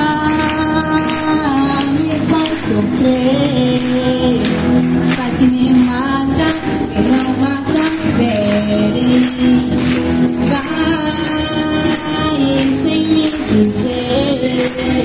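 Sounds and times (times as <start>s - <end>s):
jingling high percussion: 0.0s - 15.0s.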